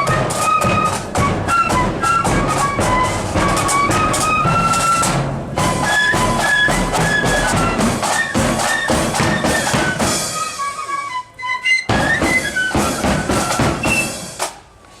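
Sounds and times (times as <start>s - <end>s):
drums: 0.0s - 11.0s, 11.8s - 15.0s
flute band playing: 0.0s - 14.6s.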